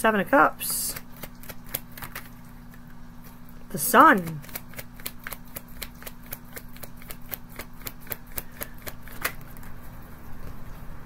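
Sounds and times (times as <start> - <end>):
cards being shuffled: 0.8 - 3.4, 4.1 - 10.7.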